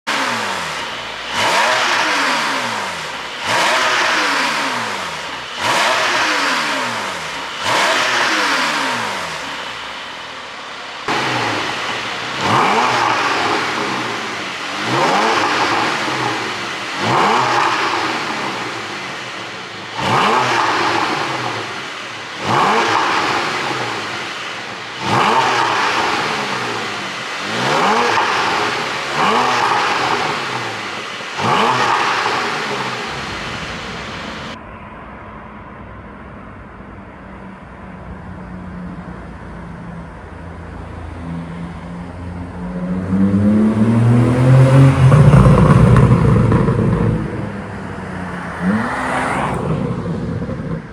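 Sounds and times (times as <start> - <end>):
car engine revving: 0.0 - 34.6, 39.7 - 50.9.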